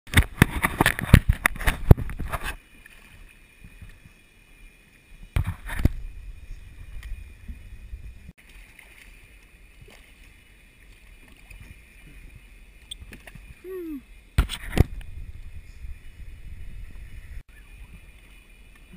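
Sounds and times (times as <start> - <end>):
water slapping kayak hull: 0.1 - 4.2, 4.9 - 18.9
water and wind hiss: 0.1 - 18.9
faint high whine: 2.5 - 18.9.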